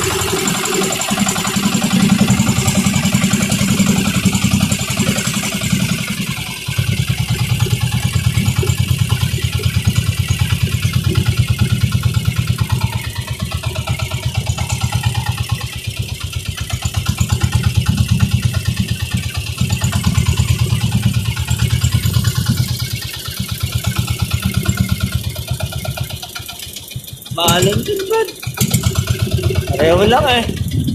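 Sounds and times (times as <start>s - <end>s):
boat engine throbbing: 0.0s - 30.9s
wind: 0.0s - 30.9s.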